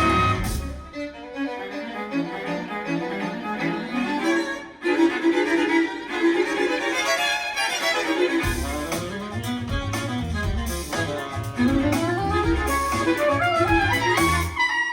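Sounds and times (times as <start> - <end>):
recorded music with bowed strings: 0.0 - 14.4.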